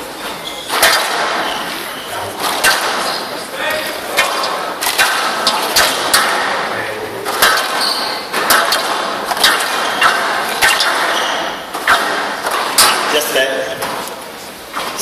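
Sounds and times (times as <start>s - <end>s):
squash ball cracking off rackets: 0.7s - 14.1s.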